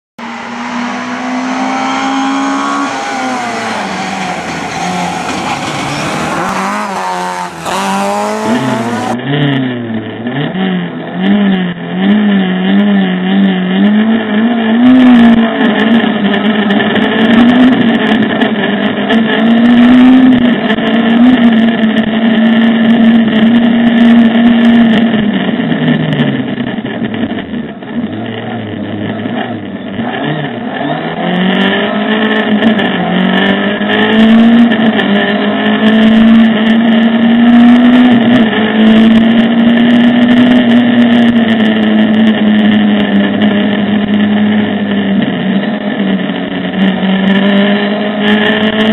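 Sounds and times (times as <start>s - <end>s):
car engine revving: 0.2s - 48.9s
rally car engine accelerating: 0.2s - 48.9s.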